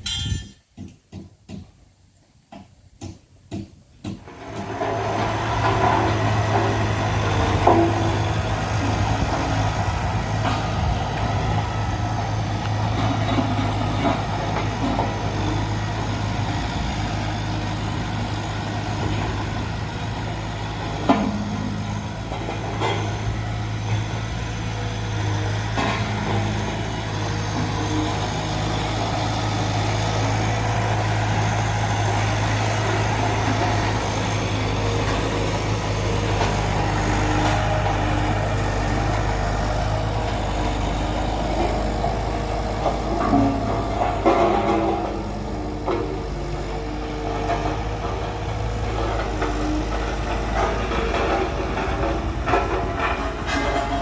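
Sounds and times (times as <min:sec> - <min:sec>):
truck engine humming: 0:04.2 - 0:54.0.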